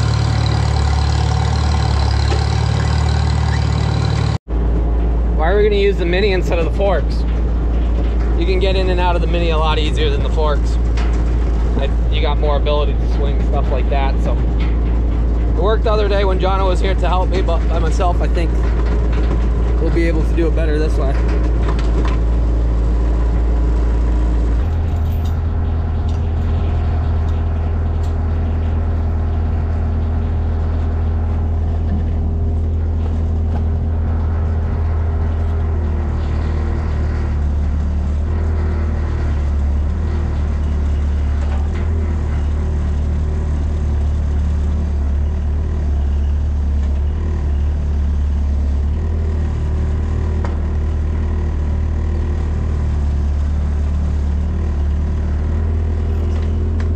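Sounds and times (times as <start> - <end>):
mini excavator diesel engine: 0.0 - 56.9.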